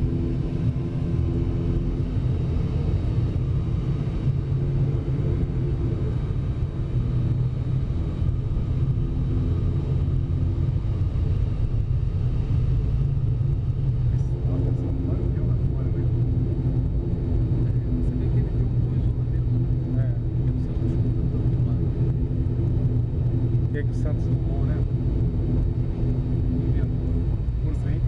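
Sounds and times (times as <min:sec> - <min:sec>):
airliner engines rumbling: 0:00.0 - 0:28.0
faint steady hums: 0:00.0 - 0:28.0.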